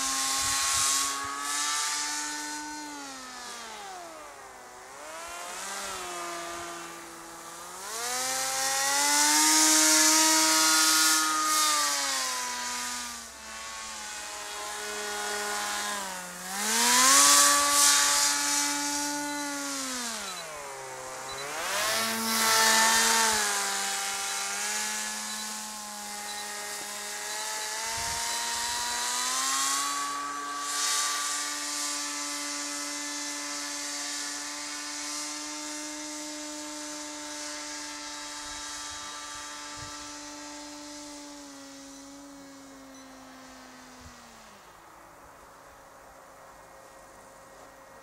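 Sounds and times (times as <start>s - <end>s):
model paramotor propeller buzzing: 0.0s - 48.0s.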